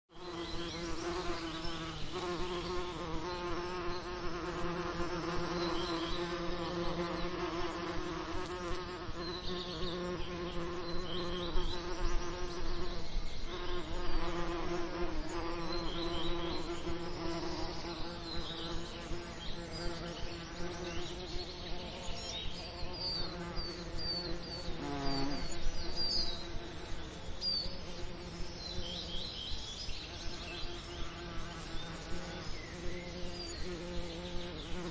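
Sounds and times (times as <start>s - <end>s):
bees buzzing: 0.2s - 29.2s, 30.2s - 34.9s.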